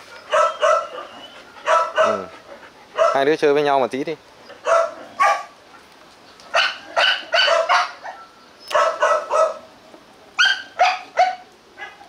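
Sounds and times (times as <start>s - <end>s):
dogs play-barking: 0.0s - 3.3s, 4.5s - 9.8s, 10.4s - 12.0s.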